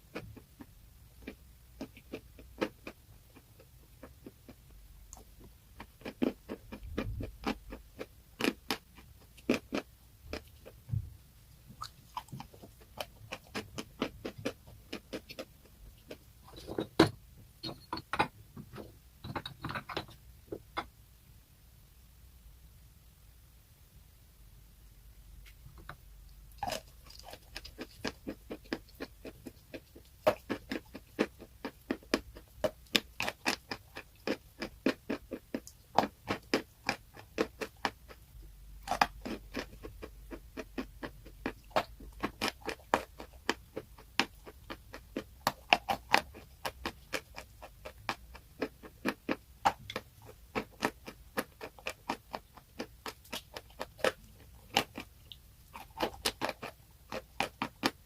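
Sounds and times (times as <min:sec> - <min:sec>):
crisp chewing crunches: 0:00.1 - 0:10.8, 0:11.8 - 0:16.7, 0:26.5 - 0:58.0.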